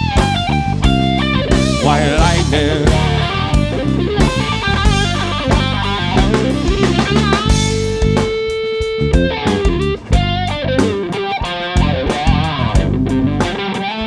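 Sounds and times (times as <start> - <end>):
bass guitar: 0.0 - 14.0
drum kit: 0.0 - 14.0
electric guitar bending notes: 0.0 - 14.0.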